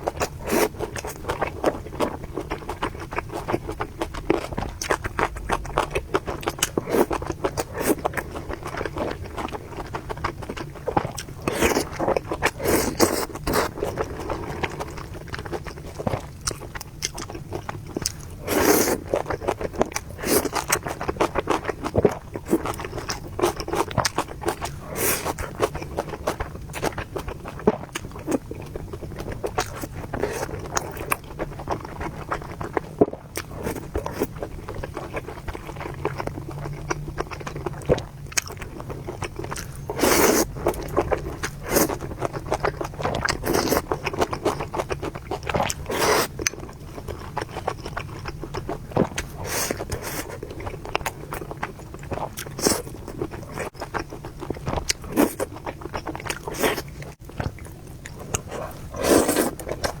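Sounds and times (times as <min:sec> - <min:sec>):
chewing and biting food: 0:00.0 - 1:00.0.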